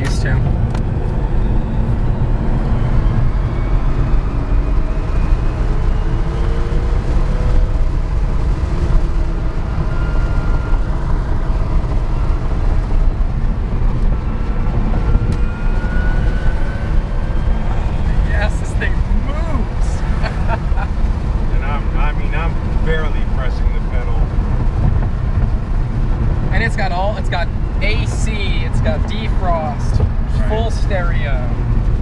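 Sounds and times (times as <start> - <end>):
road and wind rumble: 0.0 - 32.0.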